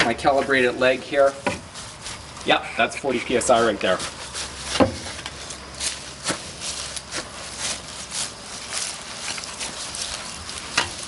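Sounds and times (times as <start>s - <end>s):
boots tramping on straw: 0.0s - 11.0s
straw rustling crunches: 0.4s - 11.0s.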